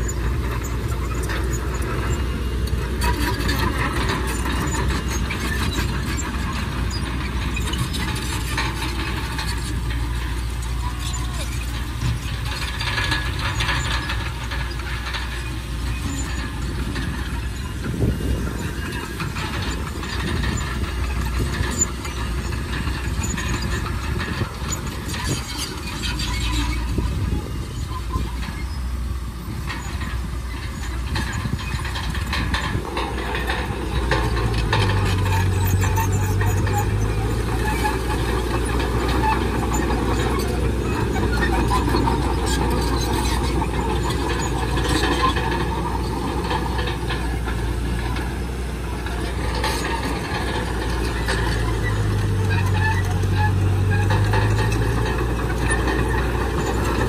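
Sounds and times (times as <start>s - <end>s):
bulldozer diesel engine running: 0.0s - 57.0s
steel tracks clanking: 0.0s - 57.0s.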